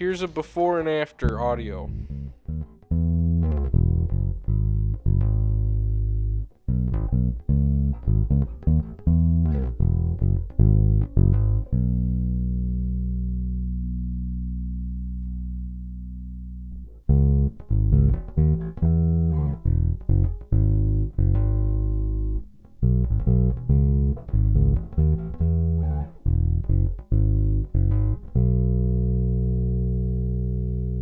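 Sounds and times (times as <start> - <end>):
electric bass guitar notes: 0.0 - 31.0.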